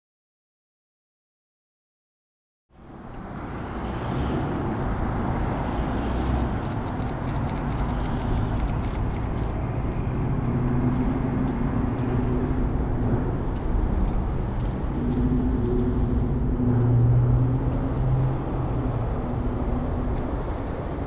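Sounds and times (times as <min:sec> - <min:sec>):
traffic rumble: 0:02.8 - 0:21.0.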